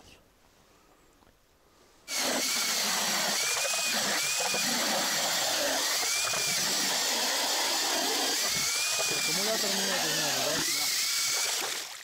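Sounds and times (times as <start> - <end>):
auger grinding ice: 2.1 - 11.8
cordless drill motor whining: 2.1 - 11.8.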